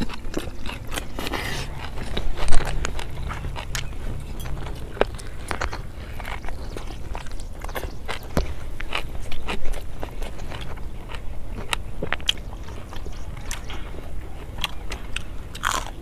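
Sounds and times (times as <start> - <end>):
chewing and biting food: 0.0 - 16.0
steady low rumble: 0.0 - 16.0.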